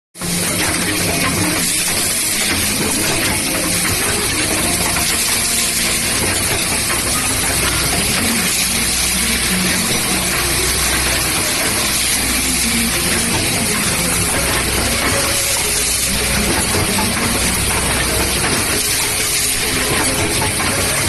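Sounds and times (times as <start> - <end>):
machinery hiss: 0.2 - 21.0.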